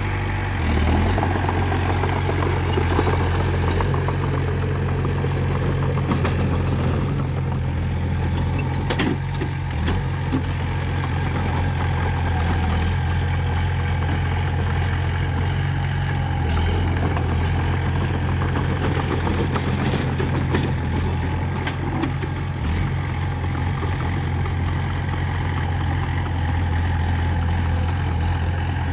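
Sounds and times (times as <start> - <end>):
heavy diesel engine droning: 0.0 - 28.9.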